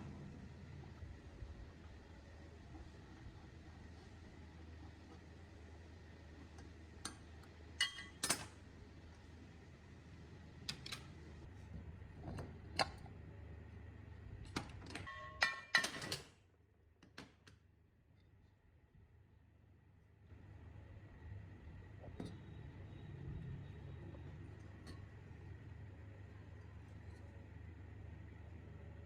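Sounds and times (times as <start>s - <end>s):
low steady hum: 0.0s - 15.7s, 17.8s - 29.0s.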